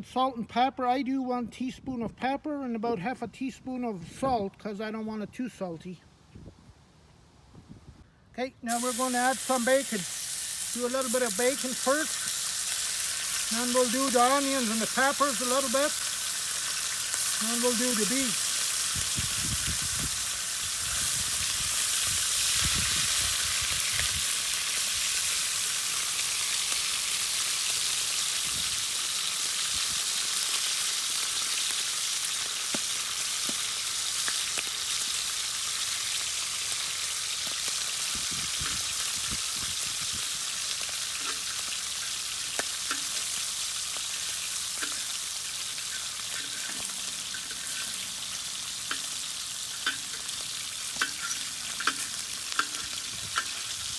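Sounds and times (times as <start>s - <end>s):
bacon sizzling in a pan: 8.7s - 53.9s.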